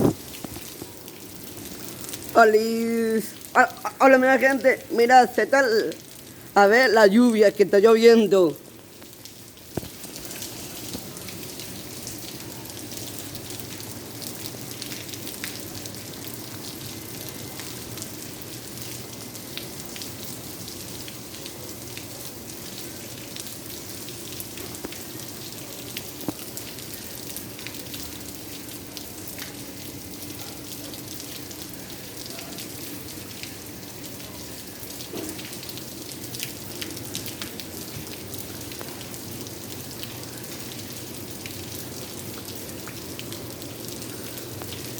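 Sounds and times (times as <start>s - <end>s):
rain patter: 0.0s - 44.9s.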